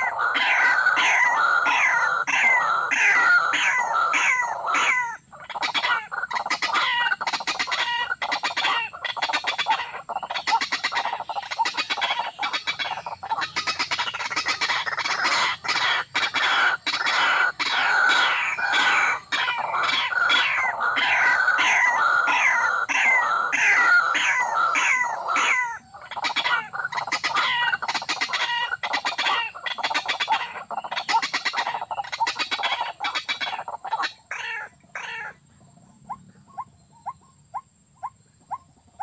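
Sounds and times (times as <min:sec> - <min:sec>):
waterhen clucking calls: 0:00.0 - 0:35.4.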